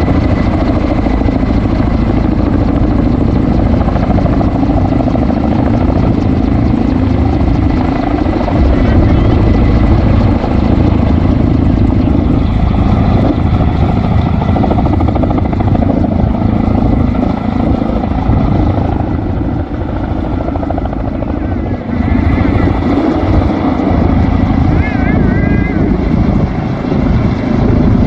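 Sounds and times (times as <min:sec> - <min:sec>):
helicopter rotor and turbine: 0:00.0 - 0:28.0.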